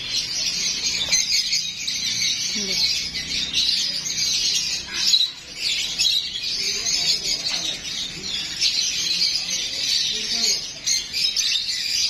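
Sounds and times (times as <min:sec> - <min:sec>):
parrots chirping and chattering: 0:00.0 - 0:12.0.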